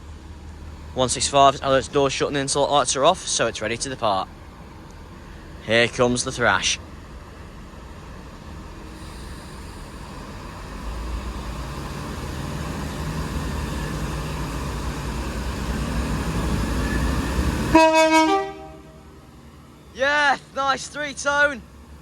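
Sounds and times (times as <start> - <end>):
diesel train pulling away: 0.0 - 22.0.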